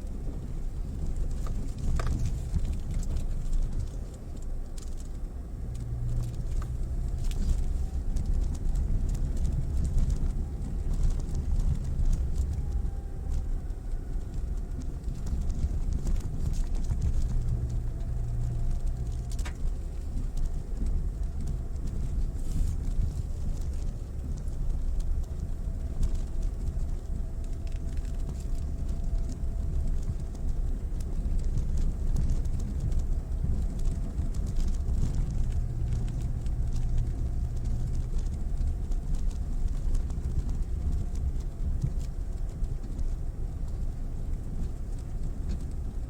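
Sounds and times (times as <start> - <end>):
car engine and road rumble: 0.0 - 46.0
stones crackling under tyres: 0.0 - 46.0
light ticks: 0.2 - 46.0.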